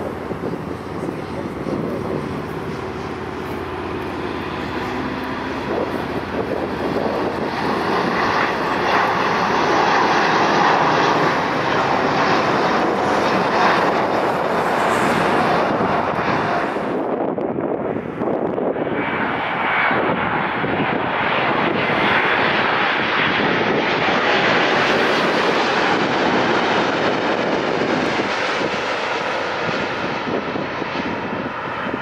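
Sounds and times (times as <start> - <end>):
jet engines with whine: 0.0 - 32.0.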